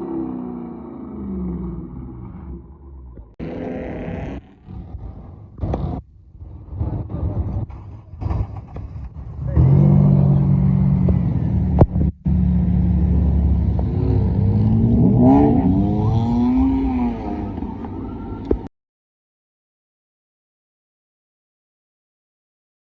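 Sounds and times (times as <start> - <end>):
car engine droning: 0.0 - 18.7.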